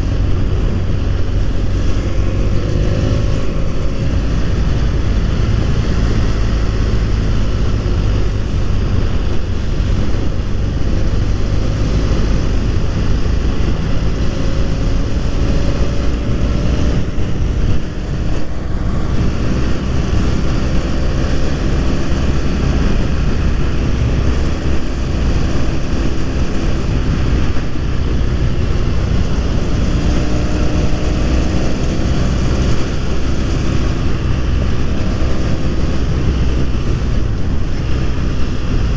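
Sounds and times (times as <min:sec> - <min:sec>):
motorcycle engine running: 0:00.0 - 0:38.9
wind buffeting on microphone: 0:00.0 - 0:38.9.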